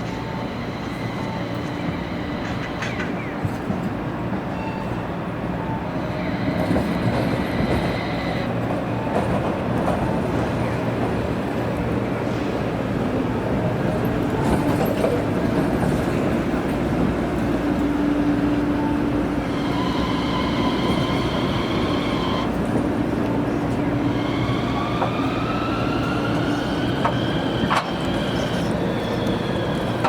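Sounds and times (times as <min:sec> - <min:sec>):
tram running rumble: 0:00.0 - 0:30.0.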